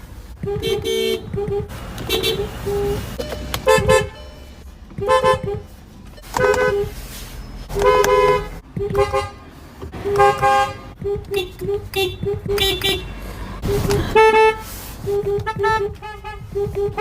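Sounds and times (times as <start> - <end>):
car horn honking: 0.3 - 17.0.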